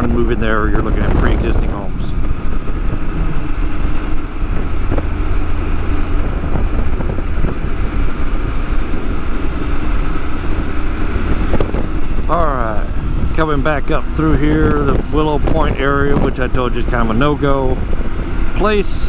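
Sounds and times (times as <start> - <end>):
motorcycle engine low rumble: 0.0 - 19.0.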